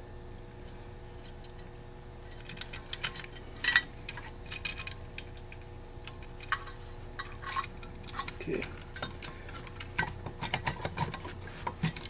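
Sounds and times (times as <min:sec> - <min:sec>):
faint steady hum: 0:00.0 - 0:12.0
metallic clicks of parts handled: 0:01.2 - 0:12.0.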